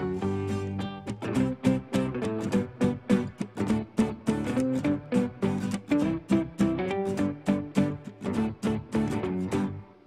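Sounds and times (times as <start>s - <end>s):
strummed guitar: 0.0s - 10.0s.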